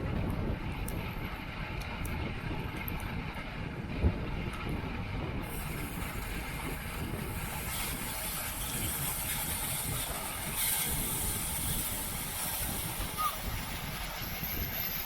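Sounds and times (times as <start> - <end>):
bicycle road noise: 0.0 - 15.0
wind rush: 0.0 - 15.0.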